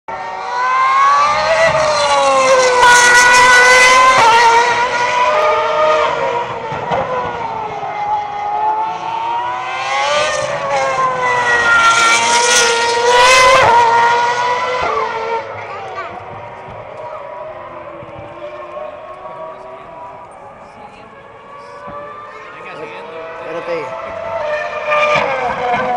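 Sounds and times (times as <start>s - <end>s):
race car engine at high revs: 0.1s - 25.9s.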